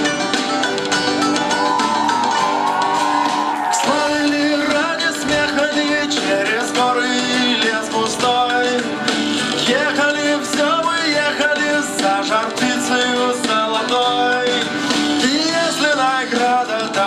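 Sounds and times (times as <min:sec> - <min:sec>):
instrumental pop music: 0:00.0 - 0:17.0.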